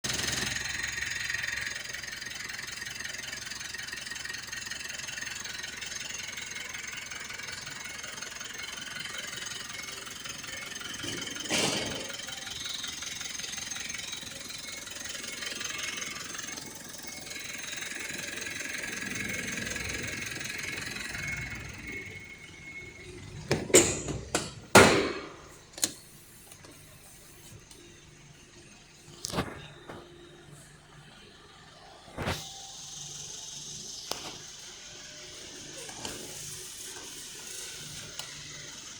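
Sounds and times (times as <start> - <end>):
engine running with whine: 0.0 - 38.9.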